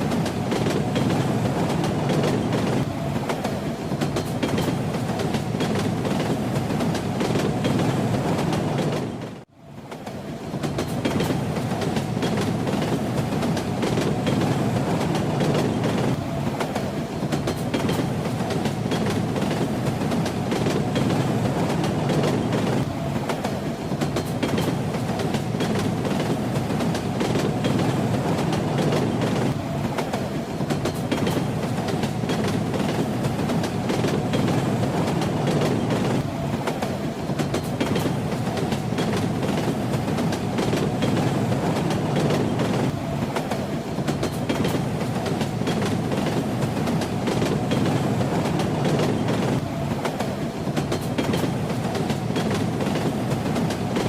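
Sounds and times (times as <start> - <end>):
train rumbling on track: 0.0 - 54.0
wheels clacking over rail joints: 0.0 - 54.0.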